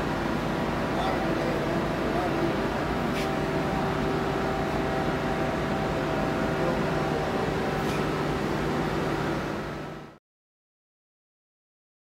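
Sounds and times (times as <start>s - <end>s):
constant machine tones: 0.0s - 10.2s.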